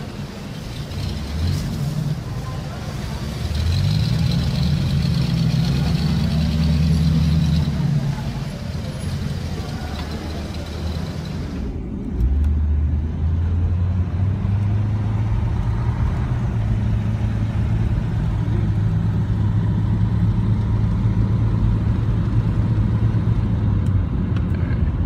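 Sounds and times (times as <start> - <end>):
car engine droning: 0.0 - 25.0.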